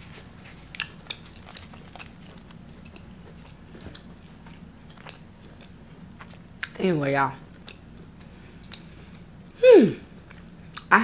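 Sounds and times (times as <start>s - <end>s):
low background hum: 0.0s - 11.0s
person chewing: 0.1s - 6.8s, 7.5s - 10.9s.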